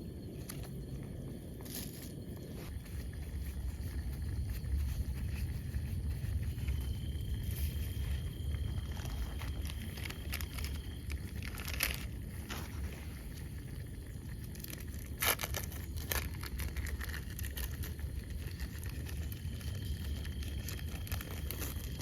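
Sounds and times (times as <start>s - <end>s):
sharp crackles and clicks: 0.2s - 22.0s.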